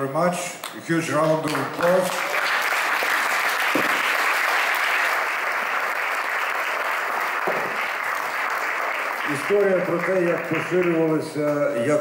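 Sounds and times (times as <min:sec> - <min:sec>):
audience applauding: 0:00.6 - 0:12.0.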